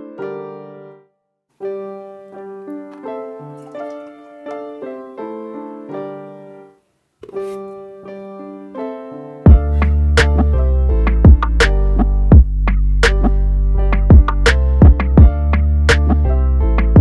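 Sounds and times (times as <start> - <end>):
piano keyboard melody: 0.0 - 17.0.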